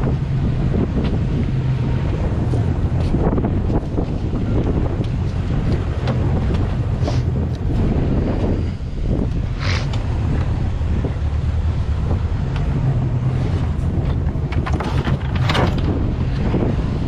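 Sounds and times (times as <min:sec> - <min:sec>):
boat engine drone: 0:00.0 - 0:17.0
wind buffeting microphone: 0:00.0 - 0:17.0.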